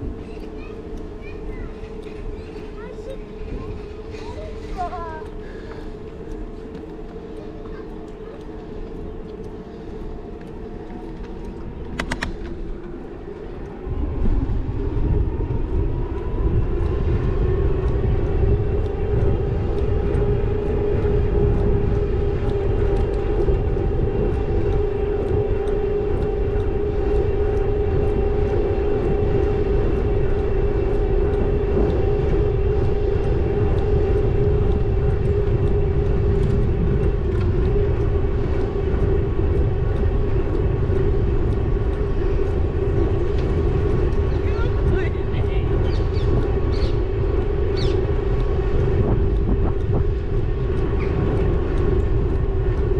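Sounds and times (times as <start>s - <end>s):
electric bike motor whining: 0.0s - 52.9s
tyres on path: 0.0s - 52.9s
wind on microphone: 0.0s - 52.9s.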